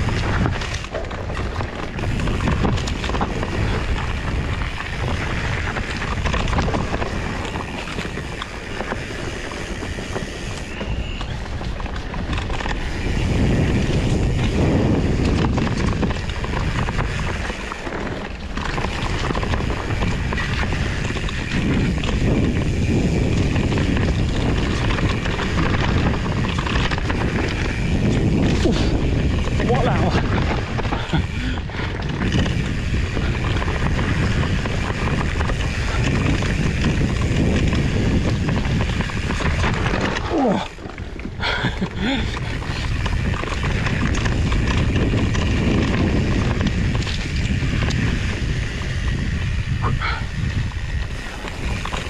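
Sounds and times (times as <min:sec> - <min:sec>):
wind rushing on microphone: 0:00.0 - 0:52.0.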